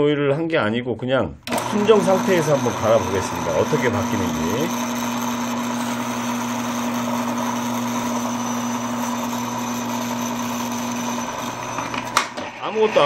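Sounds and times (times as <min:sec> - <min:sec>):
machine motor hum: 0:01.5 - 0:13.0.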